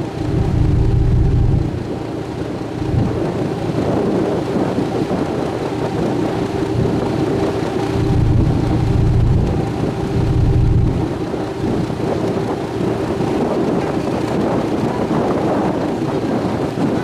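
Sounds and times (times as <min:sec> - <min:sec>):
boat engine hum: 0:00.0 - 0:17.0
rushing wind and water: 0:00.0 - 0:17.0.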